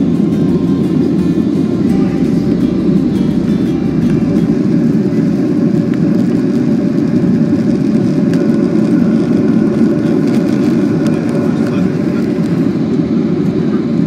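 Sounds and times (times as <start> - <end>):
jet engines rumbling: 0.0 - 14.0
rushing air: 0.0 - 14.0.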